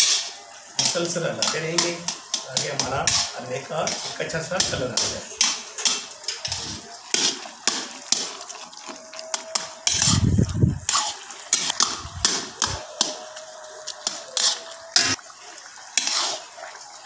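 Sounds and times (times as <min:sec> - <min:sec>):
metal spatula scraping a pan: 0:00.0 - 0:08.4, 0:09.3 - 0:13.2, 0:14.0 - 0:15.2, 0:16.0 - 0:16.5.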